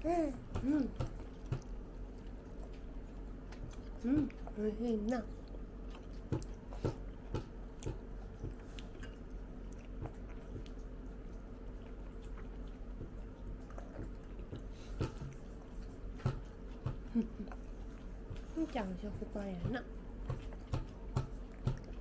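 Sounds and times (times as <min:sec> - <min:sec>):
faint steady hum: 0:00.0 - 0:22.0
chewing with mouth clicks: 0:00.8 - 0:22.0.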